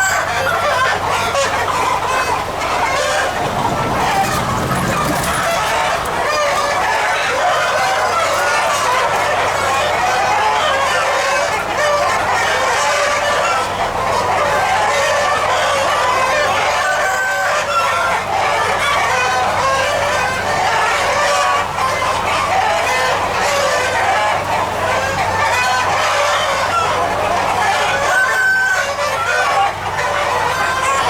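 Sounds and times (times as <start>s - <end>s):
chickens clucking: 0.0s - 31.0s
roosters crowing: 0.0s - 31.0s.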